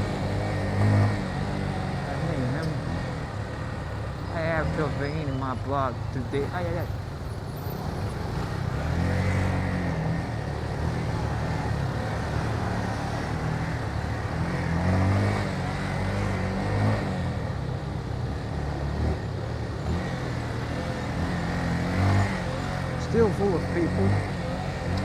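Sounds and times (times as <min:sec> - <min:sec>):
motorcycle engine revving: 0:00.0 - 0:05.3, 0:06.6 - 0:25.0
road and wind noise: 0:00.0 - 0:25.0.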